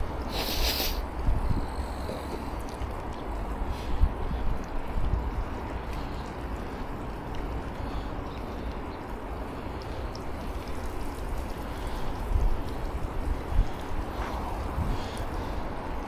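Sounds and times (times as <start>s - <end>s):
bicycle tyres hissing on wet road: 0.0s - 16.0s
wind buffeting microphone: 0.0s - 16.0s.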